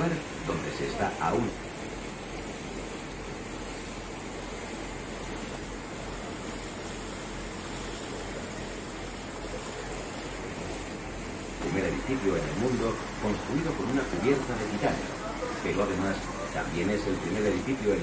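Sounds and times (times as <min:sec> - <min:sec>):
low engine hum: 0:00.0 - 0:18.0
rushing water: 0:00.0 - 0:18.0
wind: 0:00.0 - 0:18.0.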